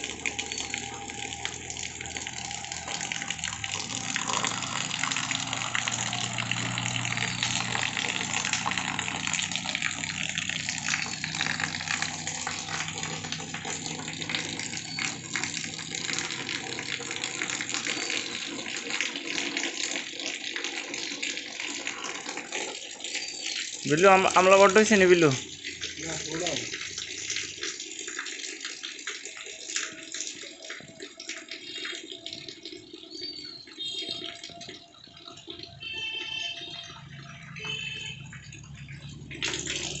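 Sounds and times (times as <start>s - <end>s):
rain falling on vegetation: 0.0s - 22.4s, 23.2s - 27.8s, 28.8s - 40.0s
runoff splashing onto sheet: 0.0s - 40.0s.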